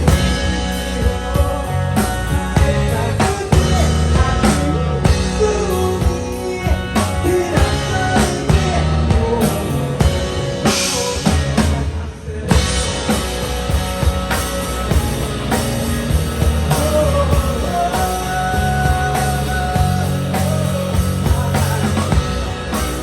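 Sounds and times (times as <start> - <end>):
drum kit beat: 0.0 - 23.0
live rock band playing: 0.0 - 23.0.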